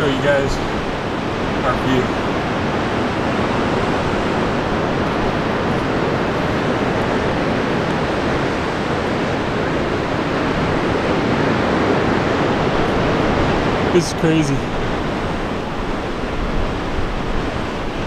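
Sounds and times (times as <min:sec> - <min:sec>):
ocean surf: 0:00.0 - 0:18.0
wind: 0:00.0 - 0:18.0.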